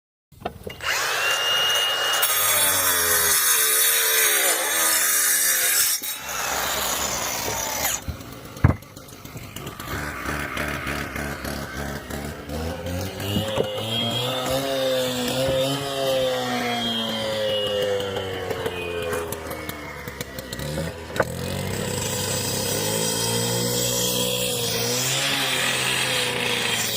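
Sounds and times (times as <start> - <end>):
power saw cutting wood: 0.7 - 26.9.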